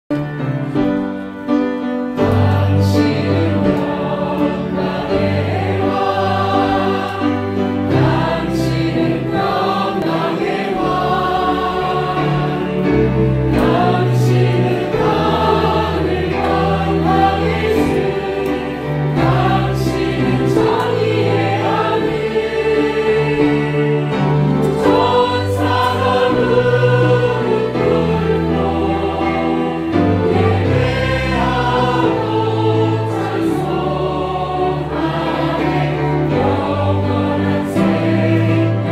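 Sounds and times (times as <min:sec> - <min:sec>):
congregation singing a hymn: 0:00.1 - 0:38.9
piano accompaniment: 0:00.1 - 0:38.9.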